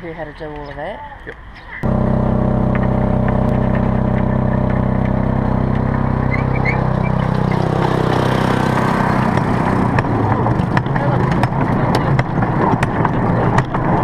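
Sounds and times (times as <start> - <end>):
small train engine running: 1.8 - 14.0
carriage wheels rumbling on rails: 2.7 - 14.0.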